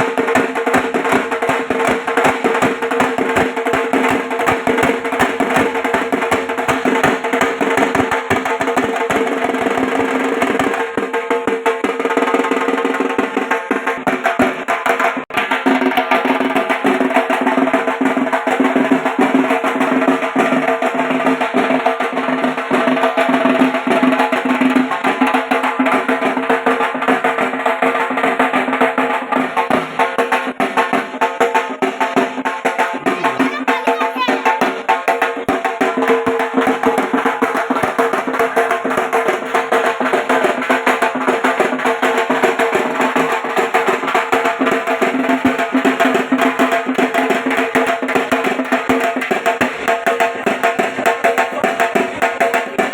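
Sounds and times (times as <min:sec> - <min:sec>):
barrel drum beaten with sticks: 0:00.0 - 0:52.9.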